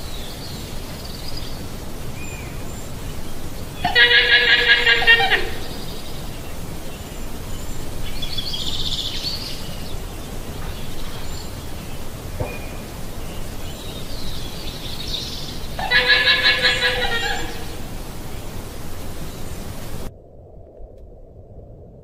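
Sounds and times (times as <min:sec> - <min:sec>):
background noise: 0:00.0 - 0:22.0
llama high-pitched call: 0:01.6 - 0:20.1.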